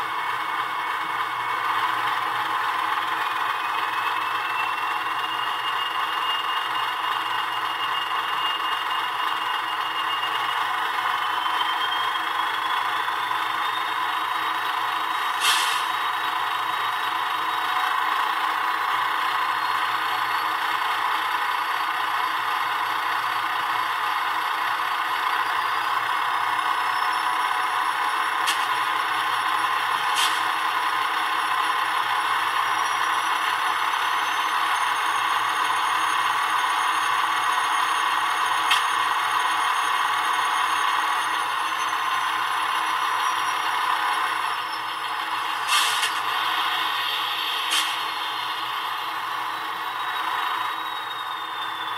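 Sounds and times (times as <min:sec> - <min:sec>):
model diesel locomotive engine sound: 0:00.0 - 0:51.9.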